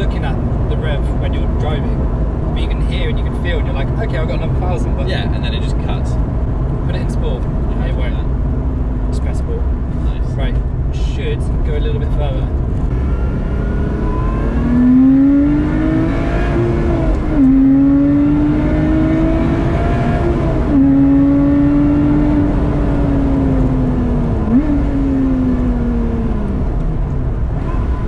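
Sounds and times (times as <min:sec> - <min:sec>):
sports car engine accelerating: 0:00.0 - 0:28.0.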